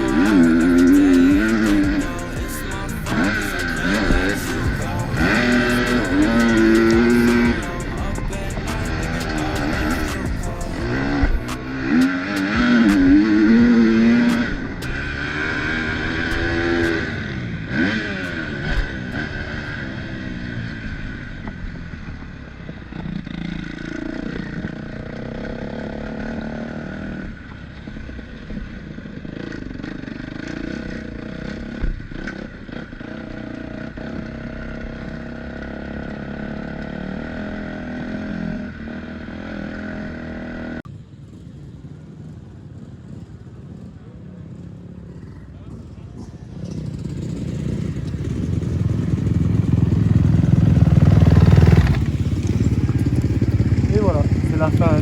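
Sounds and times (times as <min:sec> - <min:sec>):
motocross bike engine revving: 0:00.0 - 0:40.8, 0:41.4 - 0:55.0.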